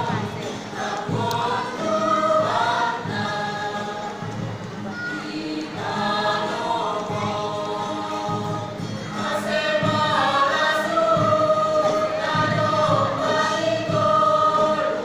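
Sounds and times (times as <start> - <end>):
mixed choir singing a hymn: 0.0 - 15.0.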